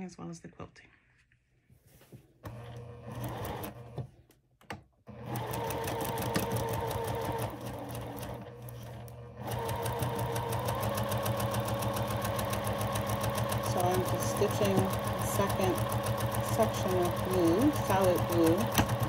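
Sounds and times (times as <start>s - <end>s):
sewing machine stitching: 2.4s - 4.1s, 5.1s - 19.0s.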